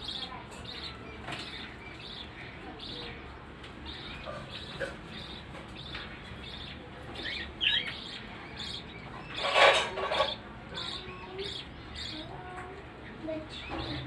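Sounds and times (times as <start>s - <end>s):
budgerigars chirping: 0.0s - 12.4s.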